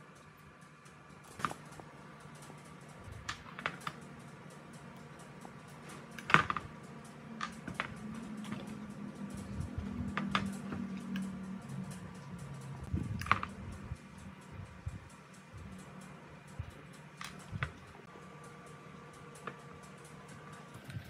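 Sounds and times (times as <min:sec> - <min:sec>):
low steady hum: 0:00.0 - 0:21.0
tools and small parts clicking: 0:00.0 - 0:21.0.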